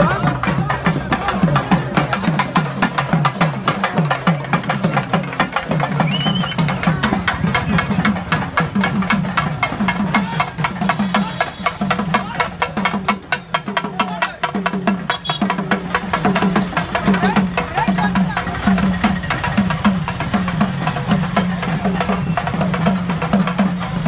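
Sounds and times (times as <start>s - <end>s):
barrel drums beating: 0.0s - 24.0s
crowd voices: 0.0s - 24.0s.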